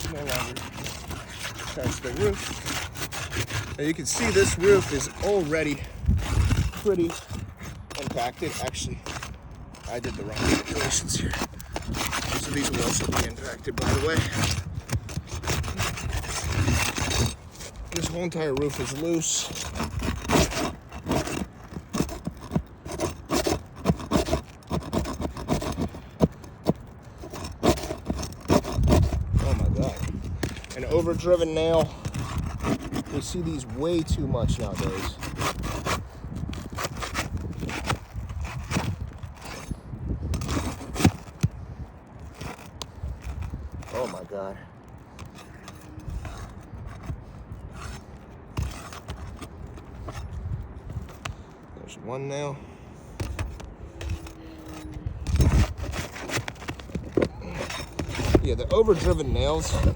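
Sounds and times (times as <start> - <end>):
roof shingles being scraped: 0.0 - 59.9.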